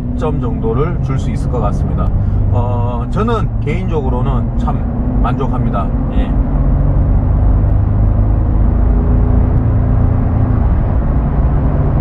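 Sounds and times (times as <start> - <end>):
pickup truck engine driving: 0.0 - 12.0.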